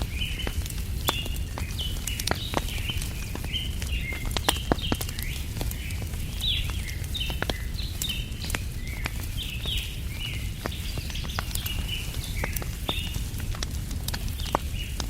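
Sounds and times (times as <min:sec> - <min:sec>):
small birds chirping: 0:00.0 - 0:15.0
wood fire crackling and popping: 0:00.0 - 0:15.0.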